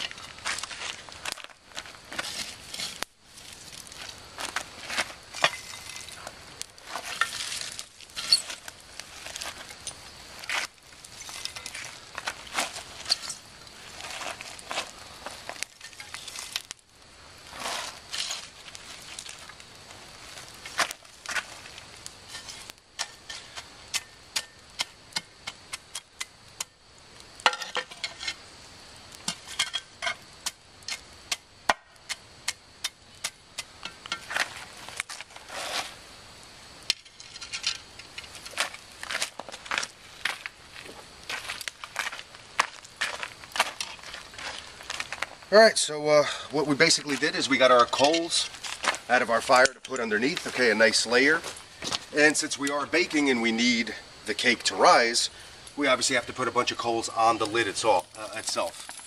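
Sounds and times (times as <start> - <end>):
coals clinking against metal: 0.0 - 36.2, 36.8 - 59.0
sharp clicks of coals: 0.0 - 59.0
shovel scraping embers: 0.0 - 59.0.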